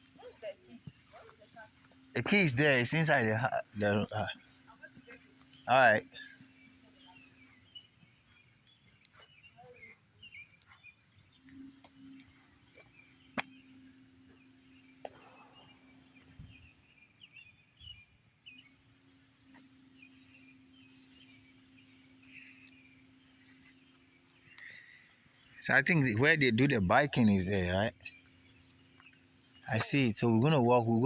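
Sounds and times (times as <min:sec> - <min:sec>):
faint bird chirps: 0:00.0 - 0:31.0
steady low hum: 0:00.0 - 0:31.0.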